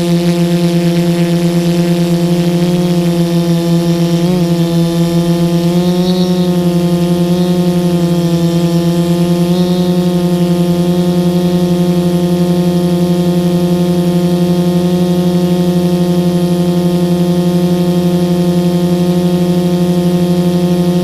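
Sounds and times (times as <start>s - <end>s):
drone motors whirring: 0.0s - 21.0s.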